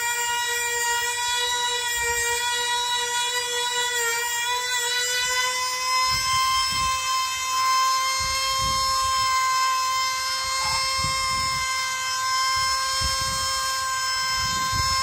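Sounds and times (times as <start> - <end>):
model engine high-pitched whine: 0.0 - 15.0.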